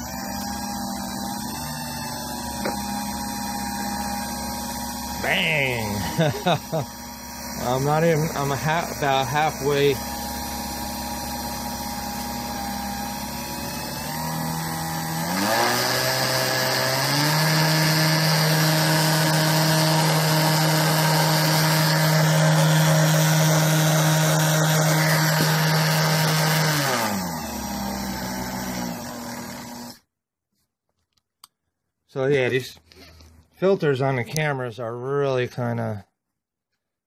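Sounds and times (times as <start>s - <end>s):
electric motor whine: 0.0s - 30.1s.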